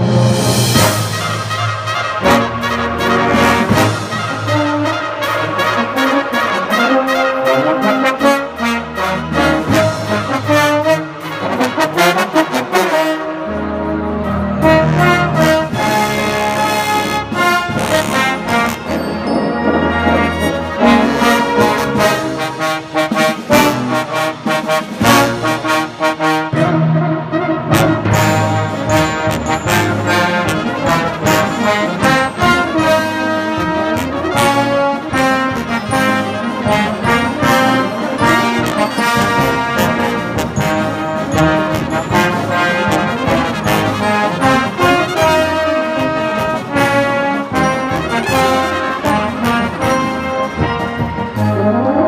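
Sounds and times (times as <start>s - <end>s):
brass band playing loudly: 0.0s - 52.0s
trombones: 0.0s - 52.0s.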